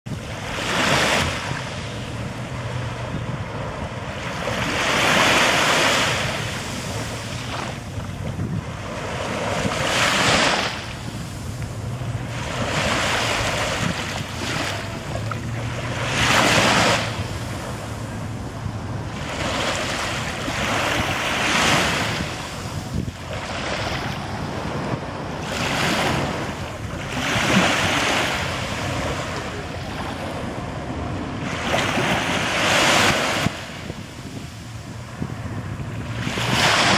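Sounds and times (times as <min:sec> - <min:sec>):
sea waves breaking on beach: 0:00.1 - 0:36.9.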